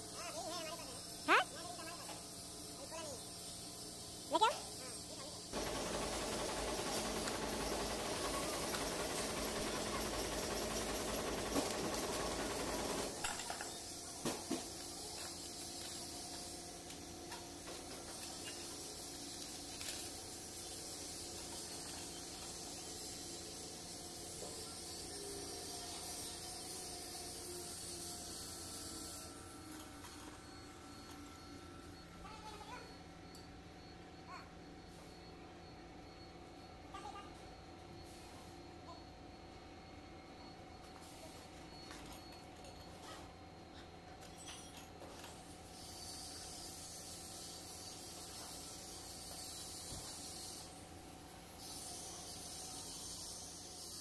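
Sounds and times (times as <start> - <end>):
workshop background hiss: 0.0 - 54.0.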